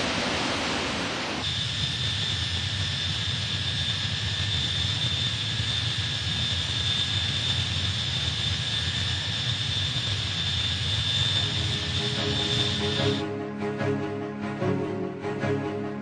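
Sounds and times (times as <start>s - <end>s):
jet engine running: 0.0s - 13.4s.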